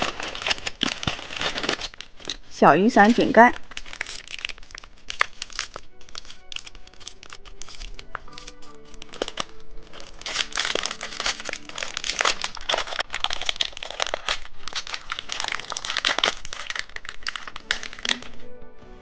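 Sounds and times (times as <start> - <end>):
plastic packaging crinkling and tearing: 0.0 - 18.5.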